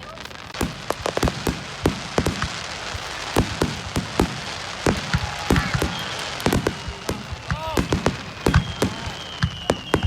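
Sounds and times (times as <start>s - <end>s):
steady crackling hiss: 0.0s - 10.0s
firework bangs with echo: 0.5s - 10.0s.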